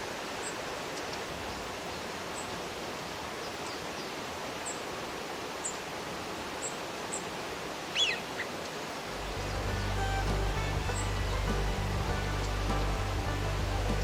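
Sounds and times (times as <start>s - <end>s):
outdoor background hiss: 0.0s - 14.0s
small wild birds calling: 0.3s - 4.9s, 6.5s - 14.0s.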